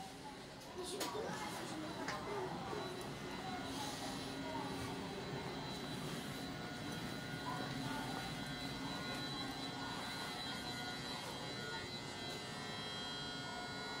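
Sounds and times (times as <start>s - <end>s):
electric train hum and whine: 0.0s - 14.0s.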